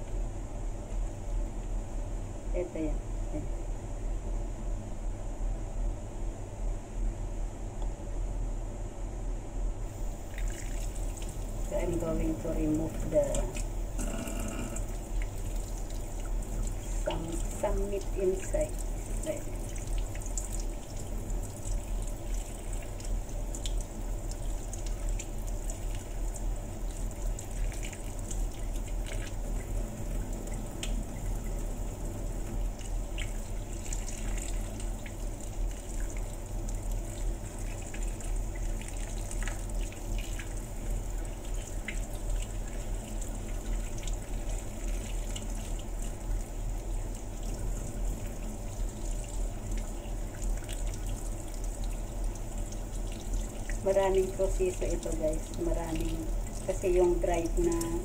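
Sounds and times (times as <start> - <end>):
faucet running into basin: 10.1 - 58.0
small ticks and splashes: 10.2 - 12.0, 12.6 - 58.0.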